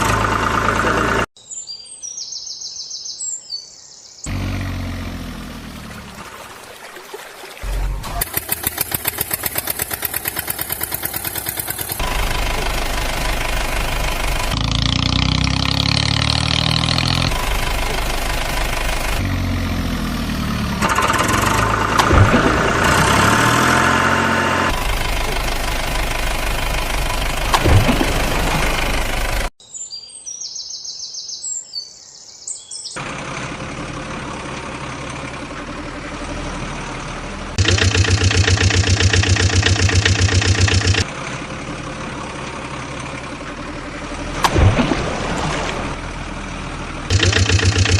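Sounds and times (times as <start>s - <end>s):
vehicle engines idling: 0.0s - 1.3s, 4.3s - 29.6s, 33.0s - 47.9s.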